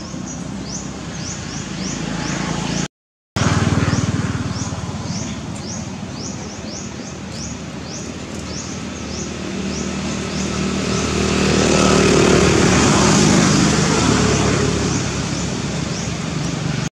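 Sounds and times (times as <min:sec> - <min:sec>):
vehicle engine humming: 0:00.0 - 0:16.9.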